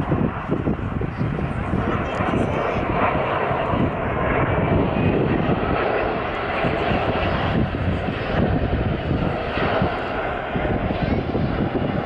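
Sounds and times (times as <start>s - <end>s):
jet engines: 0.0s - 12.0s.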